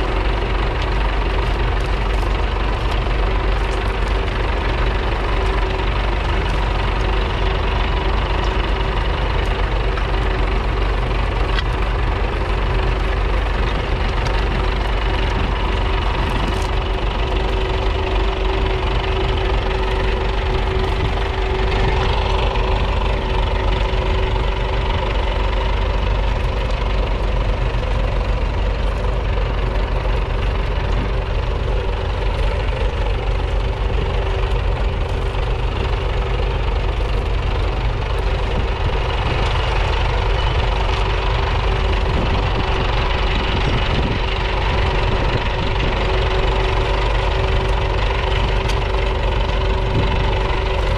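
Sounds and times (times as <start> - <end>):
tractor engine running under load: 0.0 - 50.9.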